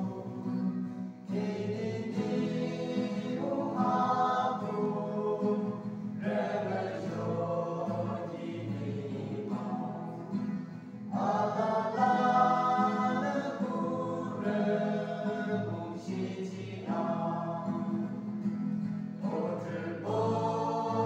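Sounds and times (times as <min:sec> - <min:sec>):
group singing gospel song: 0:00.0 - 0:21.0.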